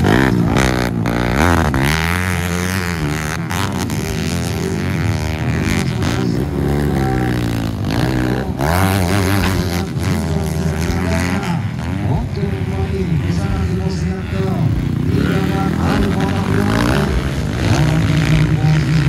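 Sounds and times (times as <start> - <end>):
motocross bike engines: 0.0 - 19.0.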